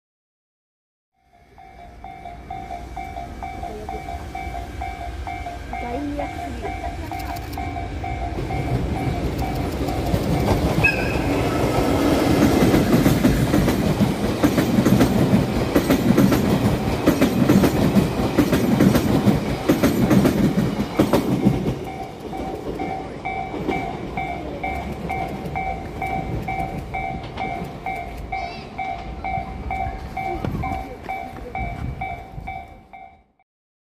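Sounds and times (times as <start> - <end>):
level crossing warning bell: 1.2 - 12.7, 14.5 - 33.4
train wheels rumbling on rails: 1.7 - 33.1.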